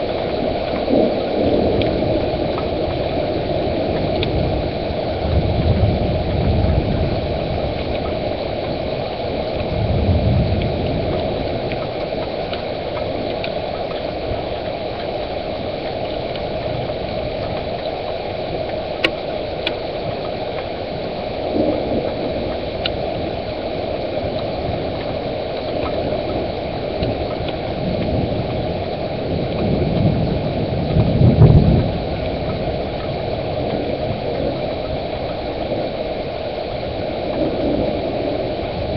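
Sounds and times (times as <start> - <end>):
steady rushing rain: 0.0 - 38.9
thunder rumbling: 0.0 - 38.9.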